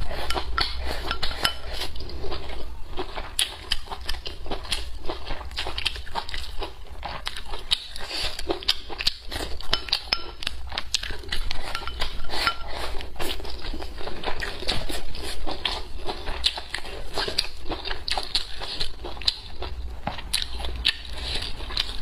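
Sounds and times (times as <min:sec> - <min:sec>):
chewing food: 0:00.0 - 0:22.0.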